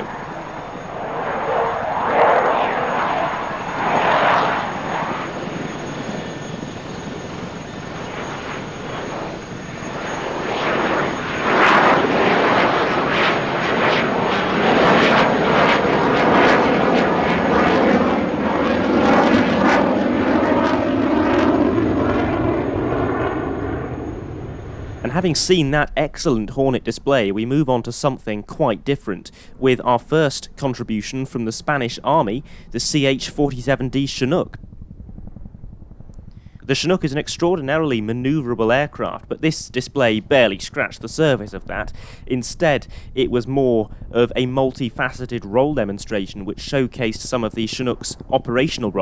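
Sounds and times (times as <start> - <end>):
fighter jet flying past: 0.0 - 49.0.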